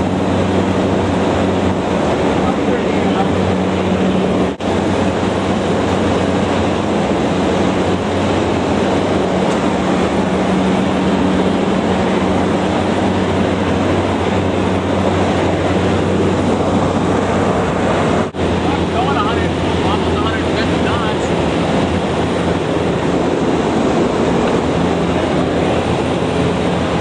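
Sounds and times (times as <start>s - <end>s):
turboprop engine drone: 0.0s - 27.0s.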